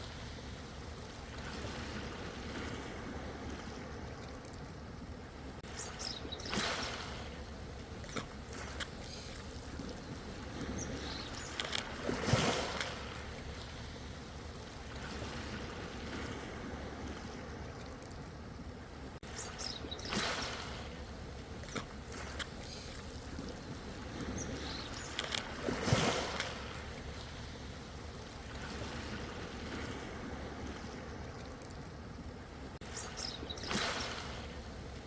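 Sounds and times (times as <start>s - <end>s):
seawater lapping and splashing: 0.0s - 35.0s
waves washing in: 0.0s - 35.0s.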